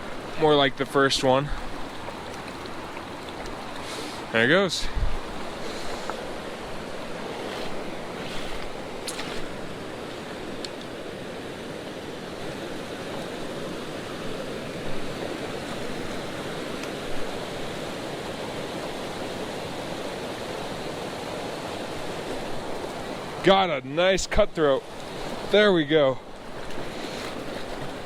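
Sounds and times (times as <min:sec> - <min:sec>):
creek rushing over rocks: 0:00.0 - 0:28.0.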